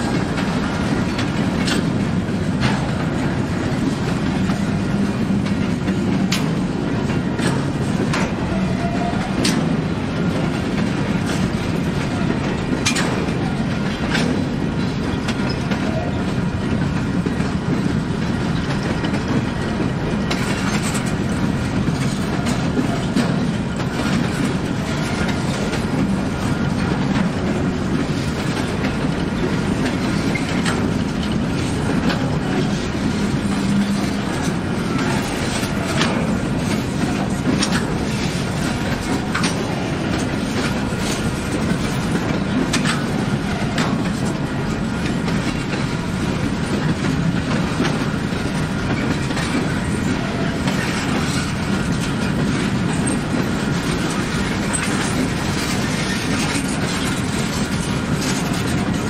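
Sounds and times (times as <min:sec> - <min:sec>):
freight train rumbling on rails: 0:00.0 - 0:59.0
train wheels clicking: 0:00.0 - 0:59.0.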